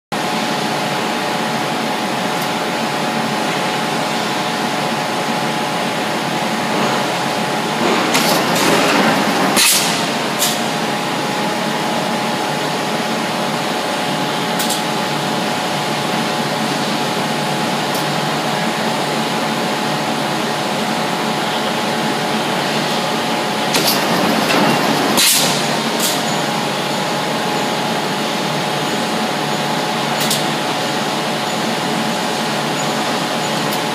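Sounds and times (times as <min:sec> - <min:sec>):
machine hum with faint whine: 0:00.2 - 0:33.9.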